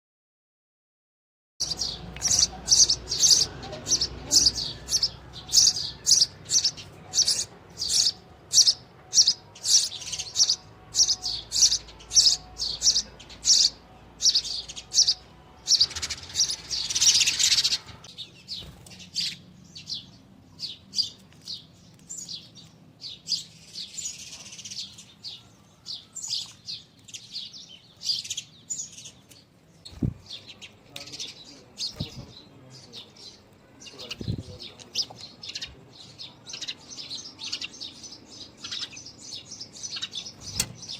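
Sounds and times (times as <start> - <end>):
sparrow chirping: 1.6 - 40.9.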